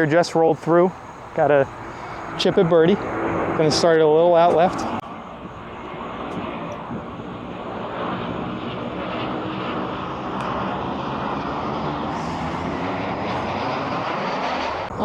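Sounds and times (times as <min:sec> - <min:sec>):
airplane engine drone overhead: 0:00.0 - 0:15.0.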